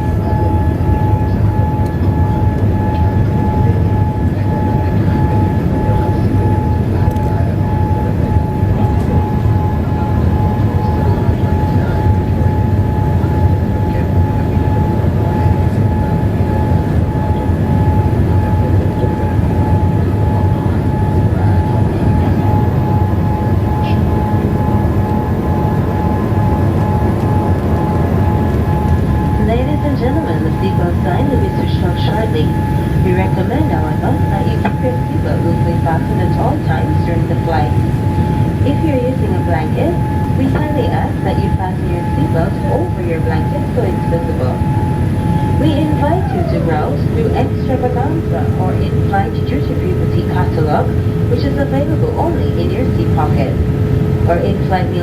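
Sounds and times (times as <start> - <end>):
airliner cabin engine rumble: 0.0 - 55.0
thin steady whine: 0.0 - 55.0.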